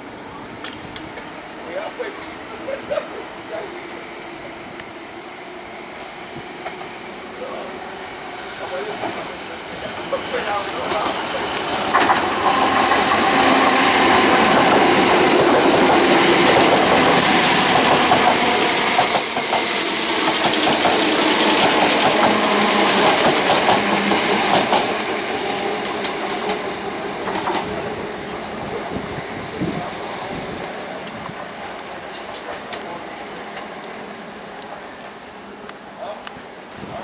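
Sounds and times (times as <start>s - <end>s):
electric train passing at speed: 0.0s - 37.0s.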